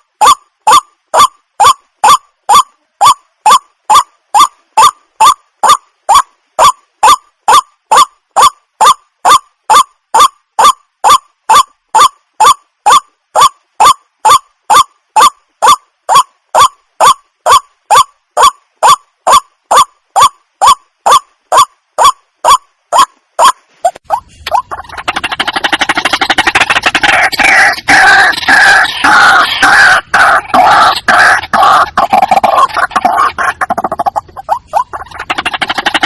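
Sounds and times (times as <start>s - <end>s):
waterhen calling: 0.0s - 36.0s.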